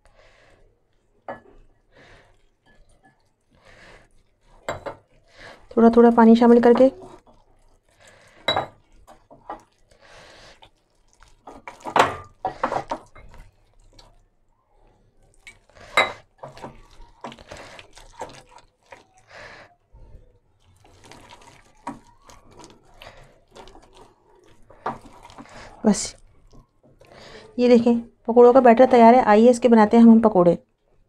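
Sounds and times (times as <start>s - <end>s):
hand squishing wet batter: 0.0s - 29.2s.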